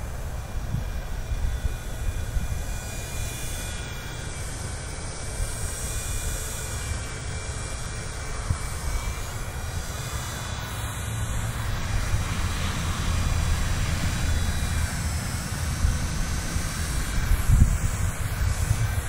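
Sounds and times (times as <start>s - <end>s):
rc helicopter motor whining: 0.0s - 19.0s
wind rumble on microphone: 0.0s - 19.0s.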